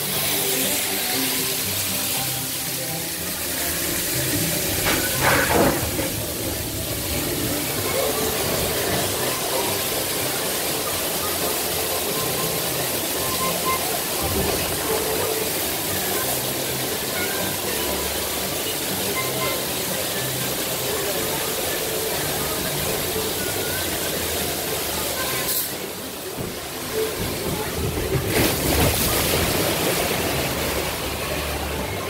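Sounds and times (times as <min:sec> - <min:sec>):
faint ride music: 0:00.0 - 0:32.0
rushing water in a channel: 0:00.0 - 0:32.0.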